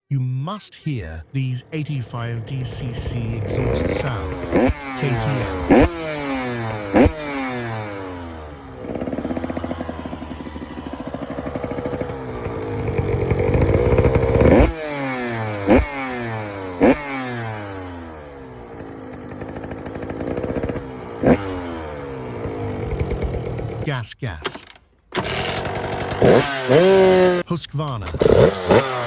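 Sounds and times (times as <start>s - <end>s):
dirt bike engine revving: 1.7s - 23.9s, 25.2s - 27.4s, 28.1s - 29.0s.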